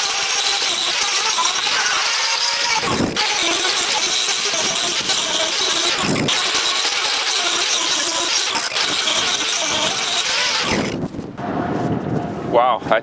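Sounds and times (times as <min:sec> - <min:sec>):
angle grinder stripping bark: 0:00.0 - 0:11.2.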